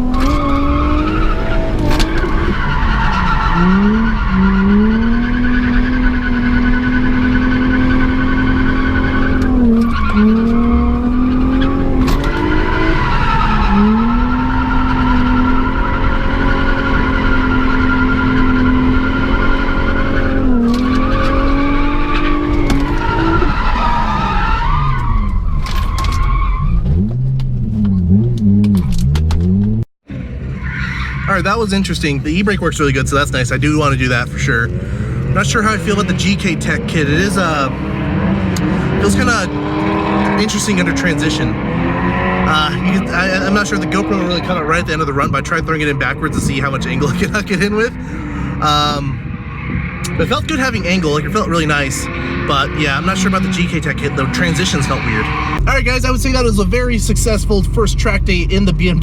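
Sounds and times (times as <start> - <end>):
car engine revving high: 0.0 - 59.0
tyres skidding: 0.0 - 59.0.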